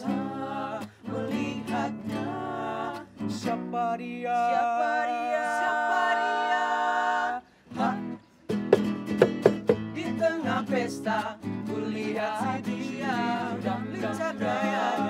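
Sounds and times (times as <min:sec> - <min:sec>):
young men singing in harmony: 0:00.0 - 0:08.2, 0:10.0 - 0:15.0
acoustic guitar: 0:00.0 - 0:15.0.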